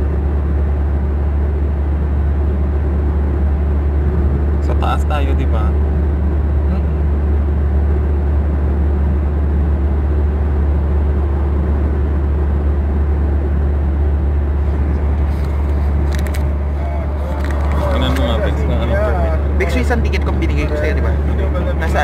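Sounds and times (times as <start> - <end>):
car cabin road and engine drone: 0.0 - 22.0.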